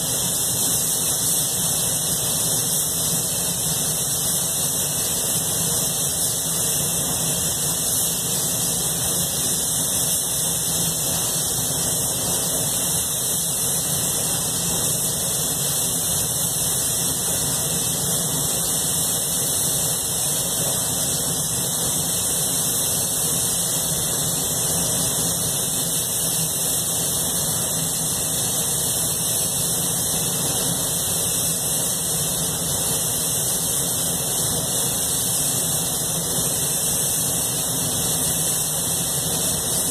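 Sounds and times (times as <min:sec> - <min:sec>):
spray booth ventilation rushing air: 0:00.0 - 0:39.9
spray gun hissing: 0:00.0 - 0:39.9.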